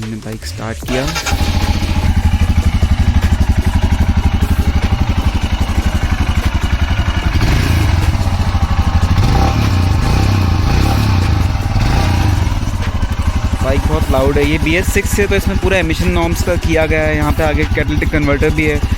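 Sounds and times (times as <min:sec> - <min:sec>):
motorcycle engine idling: 0:00.8 - 0:18.9.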